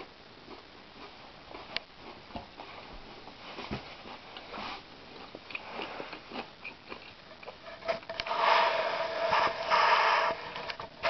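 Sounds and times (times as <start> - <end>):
rustling with steady hum: 0.0 - 11.0.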